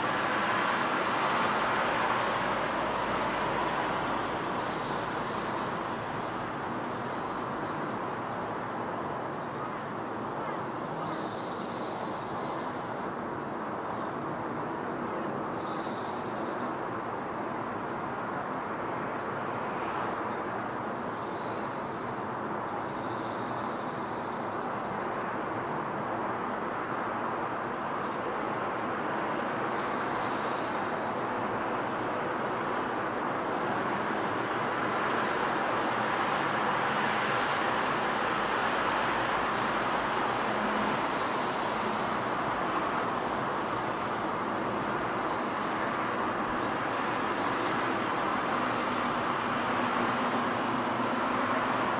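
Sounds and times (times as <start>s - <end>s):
distant road traffic: 0.0s - 51.9s.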